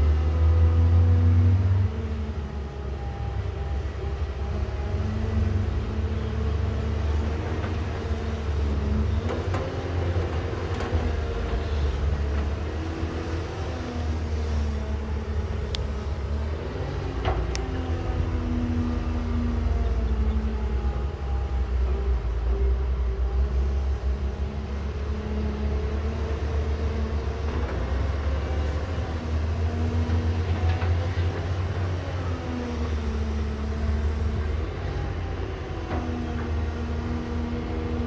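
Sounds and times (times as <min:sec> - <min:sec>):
excavator diesel engine rumbling: 0:00.0 - 0:38.0.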